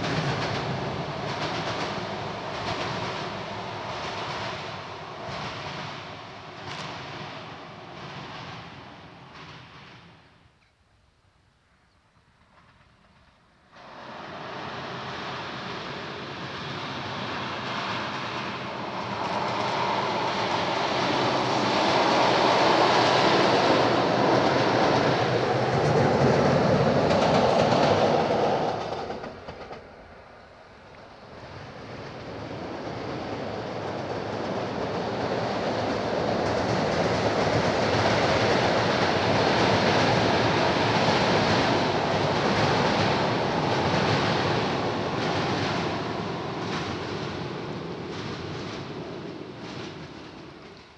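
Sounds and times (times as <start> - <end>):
locomotive crossing bridge: 0.0 - 10.5, 12.3 - 50.9
passenger train crossing bridge: 0.0 - 10.7, 11.4 - 50.9.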